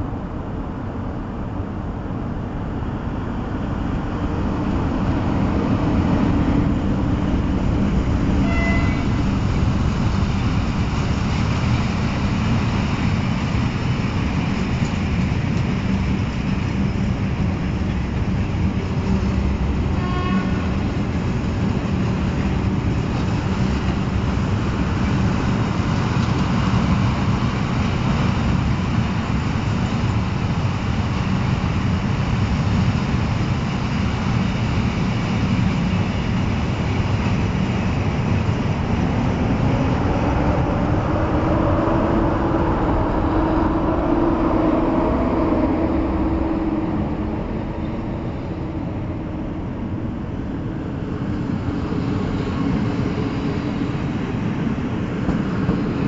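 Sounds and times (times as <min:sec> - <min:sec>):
locomotive wheels on rails: 0:02.1 - 0:56.0.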